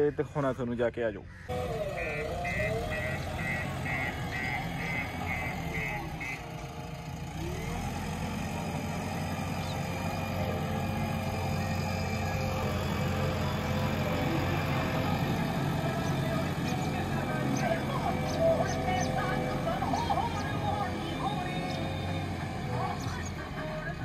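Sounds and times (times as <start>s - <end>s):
diesel engine running: 1.5s - 24.0s.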